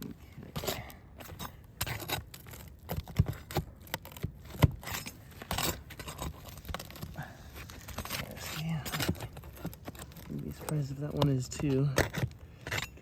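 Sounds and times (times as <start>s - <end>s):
roof shingles clicking and scraping: 0.0s - 13.0s.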